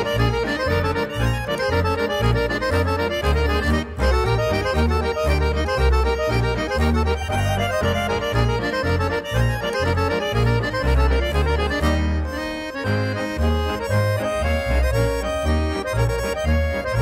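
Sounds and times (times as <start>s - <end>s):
accordion folk music: 0.0s - 17.0s.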